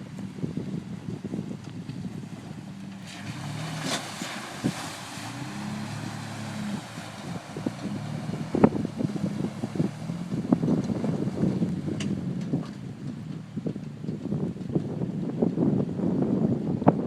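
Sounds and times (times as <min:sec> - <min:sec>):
car engine running while driving: 0:00.0 - 0:17.0
wind rushing over microphone: 0:00.0 - 0:17.0.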